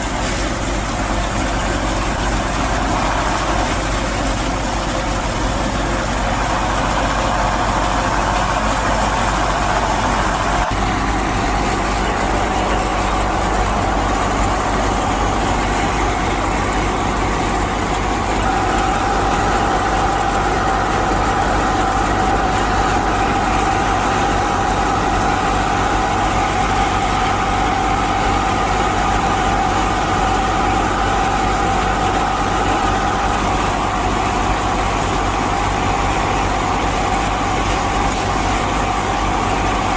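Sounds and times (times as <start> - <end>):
tractor motor running: 0.0 - 39.9.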